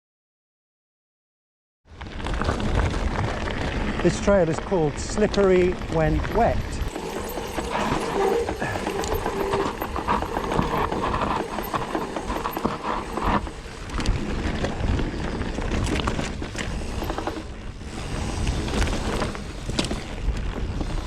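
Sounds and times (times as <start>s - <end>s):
bike rattling: 1.9s - 21.0s
tyres rolling over dirt and rock: 1.9s - 21.0s.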